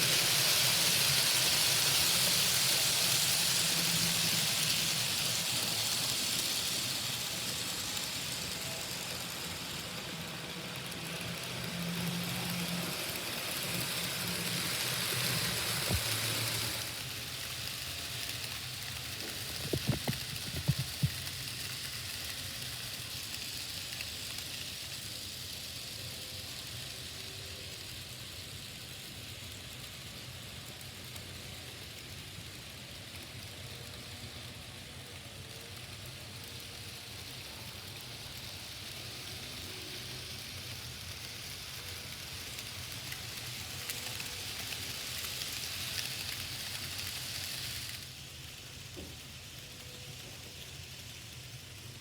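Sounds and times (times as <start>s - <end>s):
model trains whirring on track: 0.0s - 52.0s.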